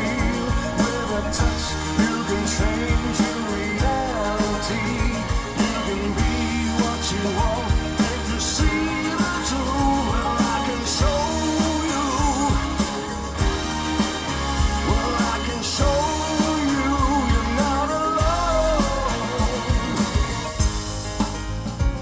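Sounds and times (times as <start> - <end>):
pop song with vocal: 0.0 - 22.0.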